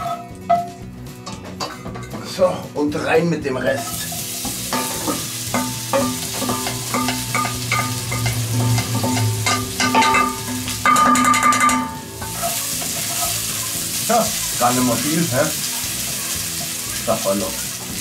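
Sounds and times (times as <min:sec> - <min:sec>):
food sizzling: 0:00.0 - 0:02.0, 0:03.0 - 0:18.0.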